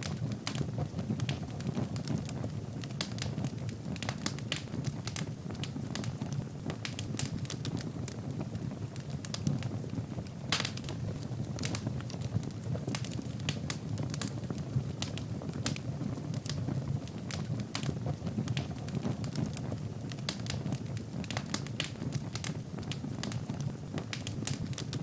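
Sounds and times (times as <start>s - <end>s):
fire crackling and popping: 0.0s - 25.0s
fire flame rushing: 0.0s - 25.0s.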